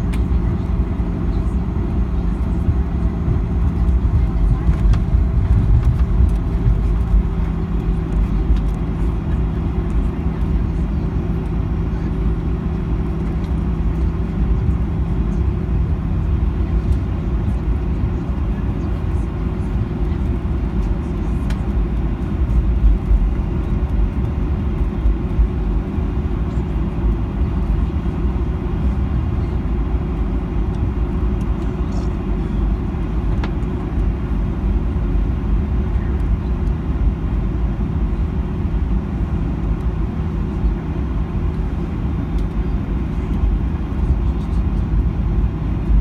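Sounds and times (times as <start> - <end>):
jet engines idling: 0.0 - 46.0
wheels rolling on taxiway: 0.0 - 46.0.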